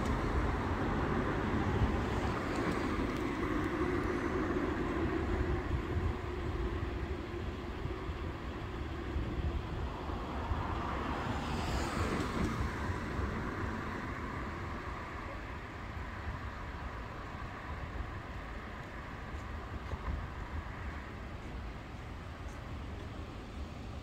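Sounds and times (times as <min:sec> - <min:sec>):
road and rail traffic rumble: 0:00.0 - 0:24.0.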